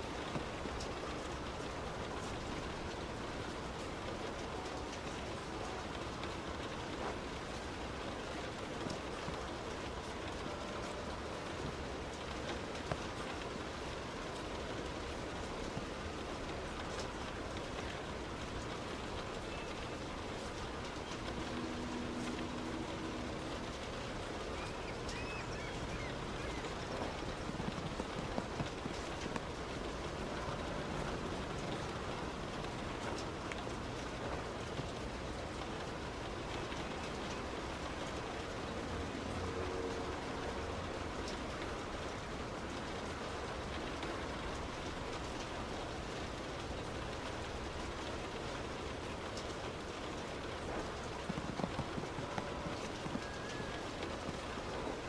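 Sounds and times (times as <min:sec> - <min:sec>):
car tyres on wet road: 0:00.0 - 0:55.0
heavy rain: 0:00.0 - 0:55.0.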